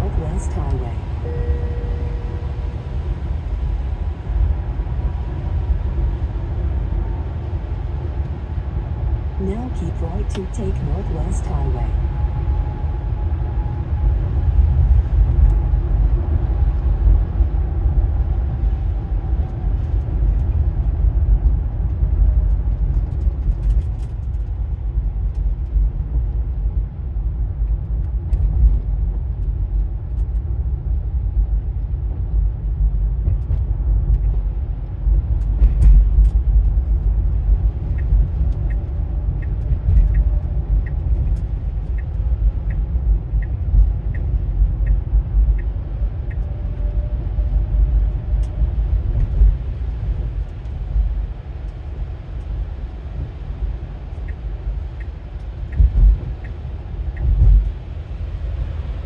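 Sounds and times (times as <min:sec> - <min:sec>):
tyre road rumble inside car: 0:00.0 - 0:59.0.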